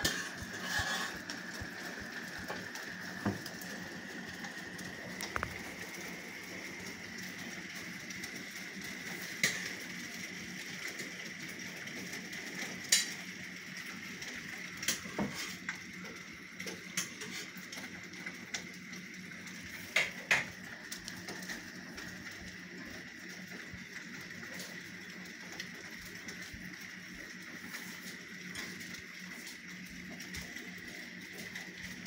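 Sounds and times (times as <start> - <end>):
hailstones clicking on hard surfaces: 0.0 - 32.0
rain hissing: 0.0 - 32.0.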